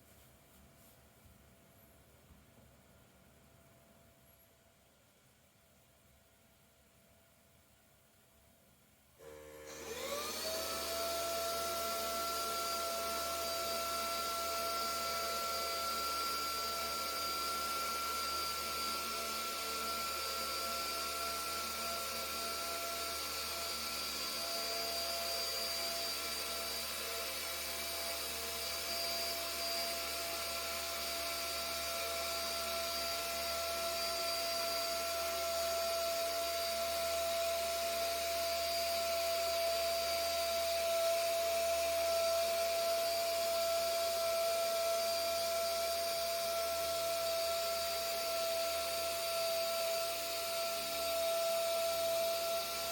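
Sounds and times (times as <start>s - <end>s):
vacuum cleaner motor whining: 9.2s - 52.9s.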